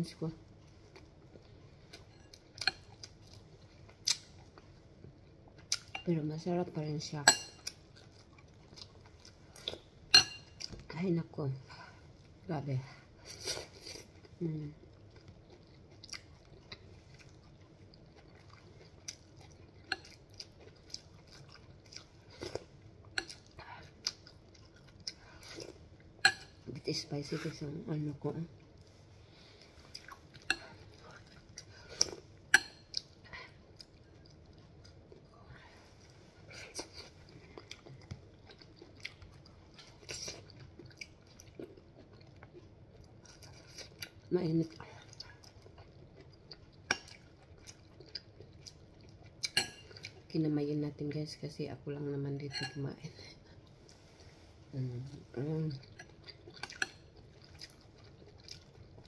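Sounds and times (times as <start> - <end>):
person chewing food: 0.4 - 5.9, 7.6 - 10.9, 13.2 - 26.7, 28.5 - 44.3, 45.0 - 50.3, 53.4 - 59.0.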